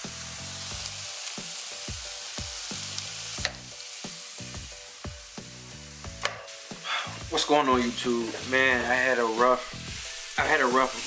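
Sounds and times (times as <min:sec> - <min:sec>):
music with steady beat: 0:00.0 - 0:10.7
meat sizzling in a frying pan: 0:00.0 - 0:11.0.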